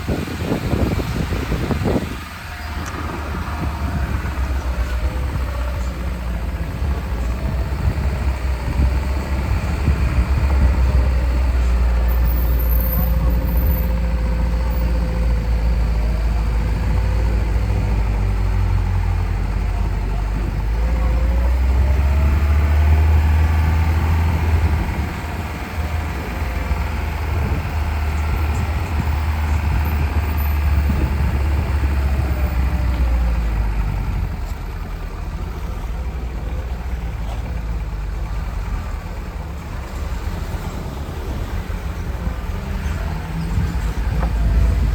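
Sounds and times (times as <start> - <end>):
car engine running off-road: 0.0 - 44.9.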